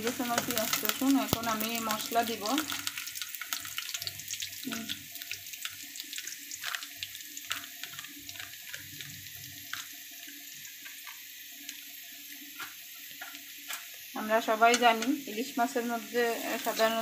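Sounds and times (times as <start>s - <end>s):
oil popping and crackling: 0.0s - 17.0s
onions sizzling in hot oil: 0.0s - 17.0s.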